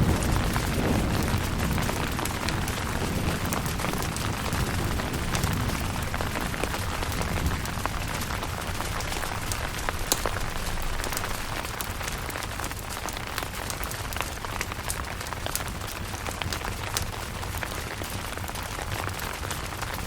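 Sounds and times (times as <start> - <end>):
sharp raindrop hits: 0.0 - 20.0
steady rain hiss: 0.0 - 20.0.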